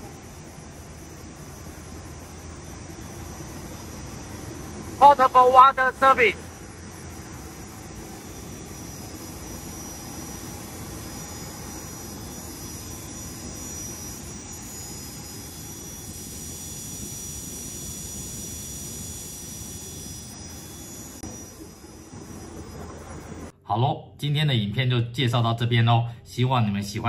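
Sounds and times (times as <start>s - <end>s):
jet aircraft rumble: 0.0s - 23.5s
faint high whining tones: 0.0s - 23.6s.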